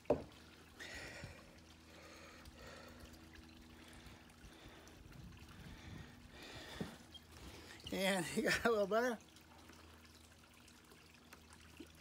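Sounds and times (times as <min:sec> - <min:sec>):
water trickling into pond: 0:00.0 - 0:12.0.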